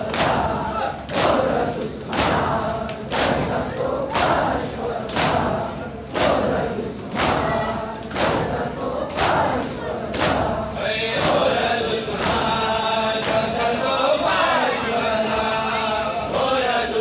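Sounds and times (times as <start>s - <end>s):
voices singing together: 0.0s - 17.0s.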